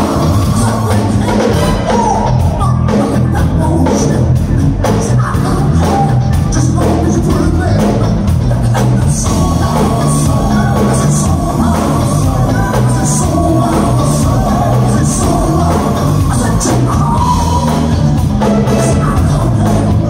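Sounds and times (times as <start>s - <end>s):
drum kit beat: 0.0s - 20.0s
electric guitar: 0.0s - 20.0s
keyboards: 0.0s - 20.0s
live band playing: 0.0s - 20.0s
people singing: 0.0s - 20.0s.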